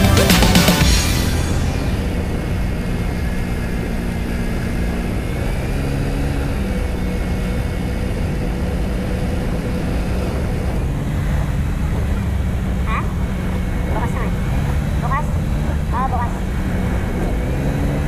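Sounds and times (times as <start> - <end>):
scooter engine running: 0.0 - 18.0
wind and road noise: 0.8 - 18.0.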